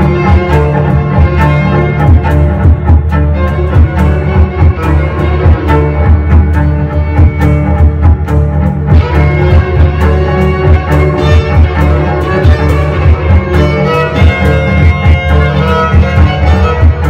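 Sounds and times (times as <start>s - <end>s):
cajon beat: 0.0s - 17.0s
cello: 0.0s - 17.0s
violin: 0.0s - 17.0s.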